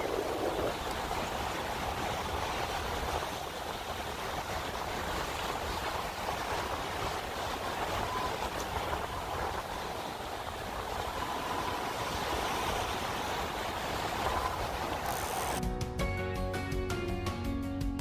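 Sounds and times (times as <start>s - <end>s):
waves washing against rocks: 0.0s - 15.6s.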